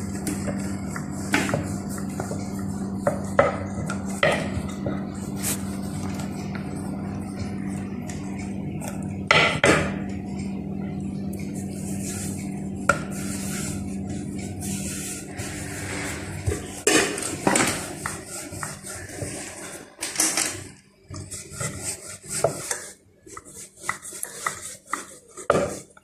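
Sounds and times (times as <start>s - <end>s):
rolling pin rolling dough: 0.0s - 26.0s
steady low hum: 0.0s - 26.0s.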